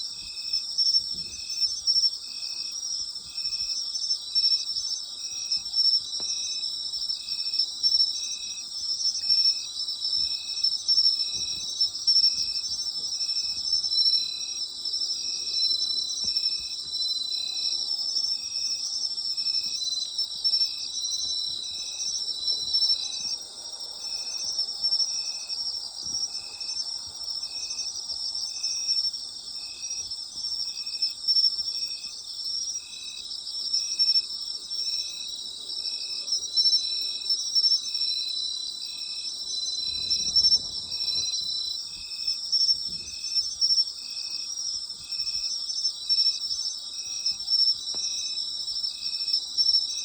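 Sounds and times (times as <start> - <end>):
crickets trilling: 0.2 - 50.0
insect long trill: 0.2 - 50.0.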